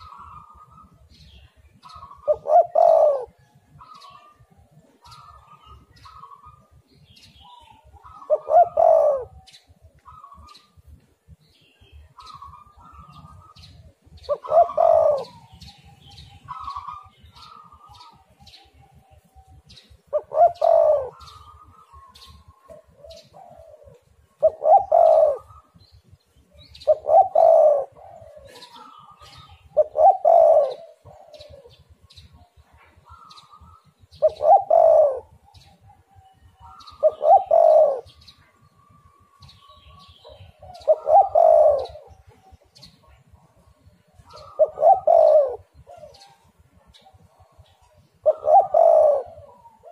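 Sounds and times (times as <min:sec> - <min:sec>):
dove cooing: 0:00.0 - 0:10.8, 0:12.1 - 0:49.9.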